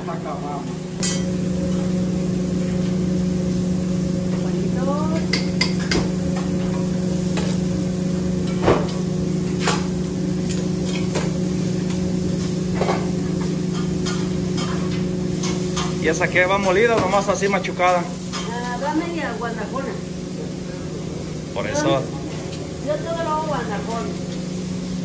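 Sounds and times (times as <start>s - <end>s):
exhaust hood fan humming: 0.0s - 25.0s
meat sizzling on a grill: 0.0s - 25.0s.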